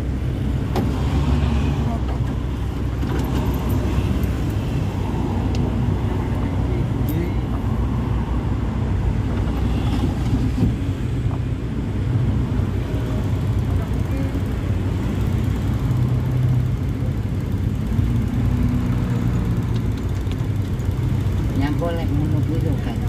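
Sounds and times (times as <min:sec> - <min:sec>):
road noise: 0:00.0 - 0:23.0
vehicle engine humming: 0:00.0 - 0:23.0.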